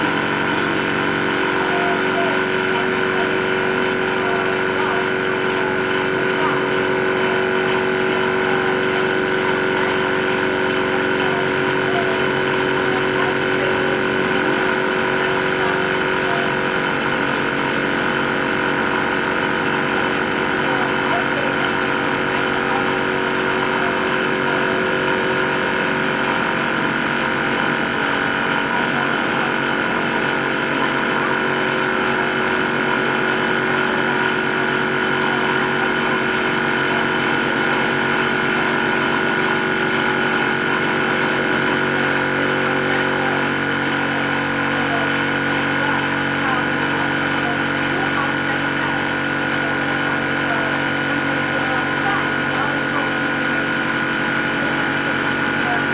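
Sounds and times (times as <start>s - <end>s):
air compressor running: 0.0s - 55.9s.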